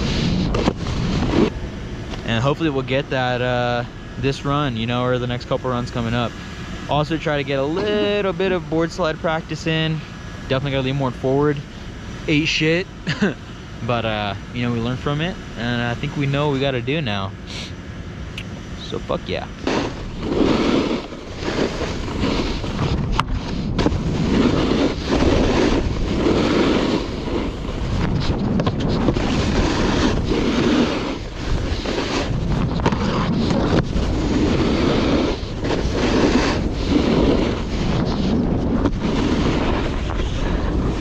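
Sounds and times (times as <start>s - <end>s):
wind buffeting microphone: 0.0s - 12.3s, 19.3s - 41.0s
snowboard scraping over snow: 0.0s - 17.7s, 18.8s - 41.0s.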